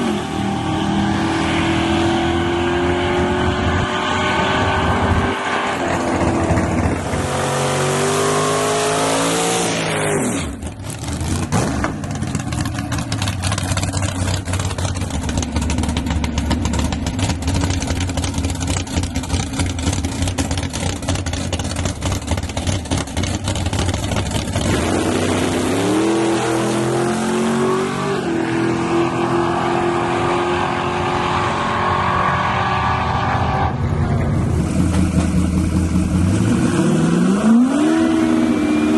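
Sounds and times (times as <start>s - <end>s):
truck engines at full throttle: 0.0s - 38.9s.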